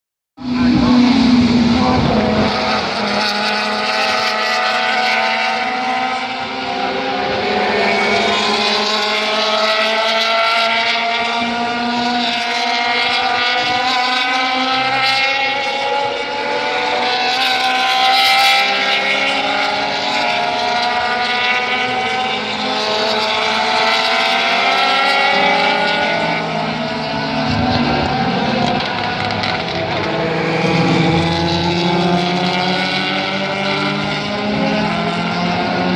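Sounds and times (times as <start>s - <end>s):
racing car engines: 0.4s - 35.9s.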